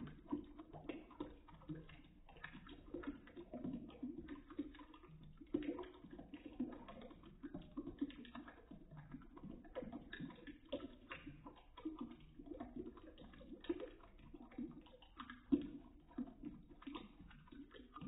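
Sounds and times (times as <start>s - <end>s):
slowed water splashing in sink: 0.0s - 18.0s.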